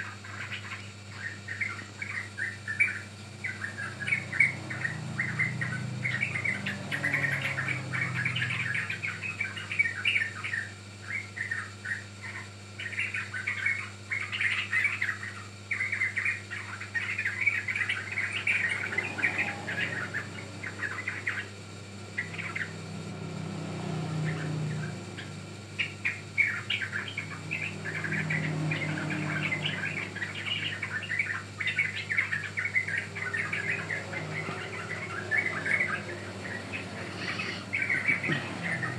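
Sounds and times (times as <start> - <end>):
birds chattering chirps: 0.0 - 38.9.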